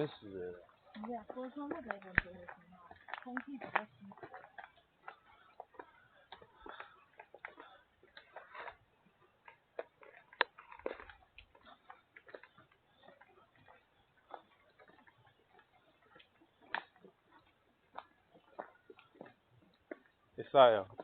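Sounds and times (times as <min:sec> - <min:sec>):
footsteps on rocky trail: 0:00.0 - 0:21.0.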